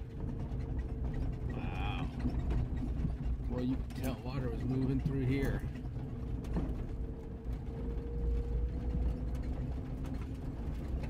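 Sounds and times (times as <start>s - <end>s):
low engine rumble: 0.0s - 11.0s
vehicle clicks and rattles: 0.0s - 11.0s.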